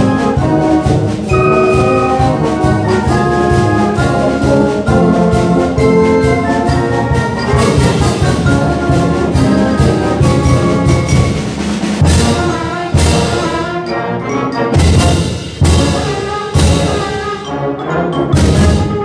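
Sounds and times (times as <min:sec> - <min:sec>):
heavy percussion strikes: 0:00.0 - 0:13.9, 0:14.6 - 0:17.6, 0:18.3 - 0:19.0
orchestral brass music: 0:00.0 - 0:19.0.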